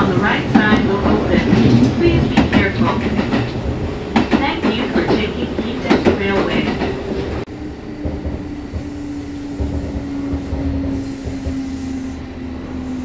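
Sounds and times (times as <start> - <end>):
train motor hum: 0.0 - 13.0
wheels rumbling: 0.0 - 13.0
low thumps from track: 0.5 - 12.0.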